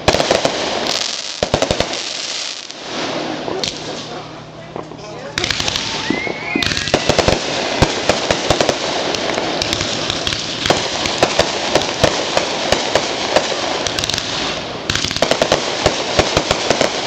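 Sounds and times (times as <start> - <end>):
fireworks hiss: 0.0 - 4.4, 5.4 - 17.0
fireworks cracking and popping: 0.0 - 17.0.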